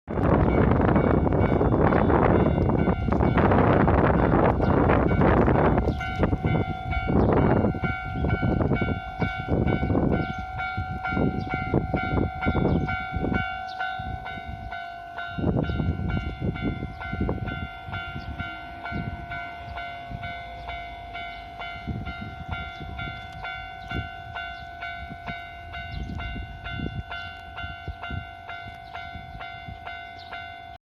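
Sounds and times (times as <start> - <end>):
level crossing bell ringing: 5.1 - 30.8.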